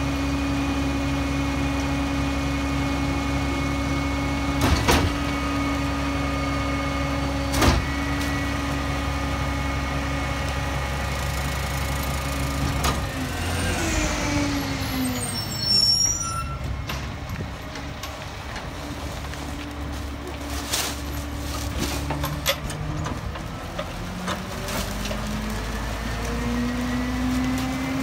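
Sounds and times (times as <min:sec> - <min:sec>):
garbage truck engine drone: 0:00.0 - 0:28.0.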